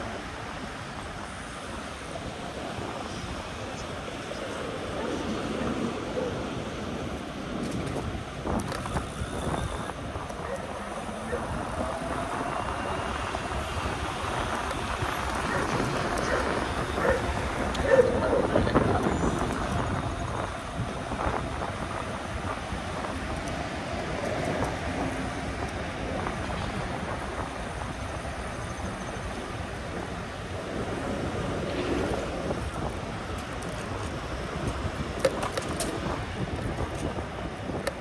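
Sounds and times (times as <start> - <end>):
road noise: 0.0 - 38.0
wind on microphone: 2.2 - 38.0.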